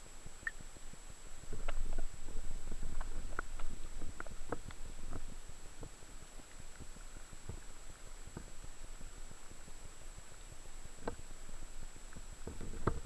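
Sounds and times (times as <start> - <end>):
faint high whine: 0.0 - 13.0
underwater rumble of moving water: 0.6 - 13.0.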